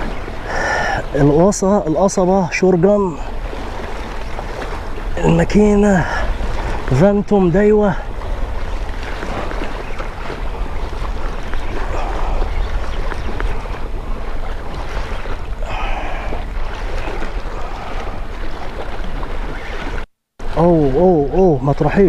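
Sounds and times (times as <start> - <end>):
sea waves washing against rocks: 0.0 - 22.0
wind buffeting microphone: 0.0 - 22.0.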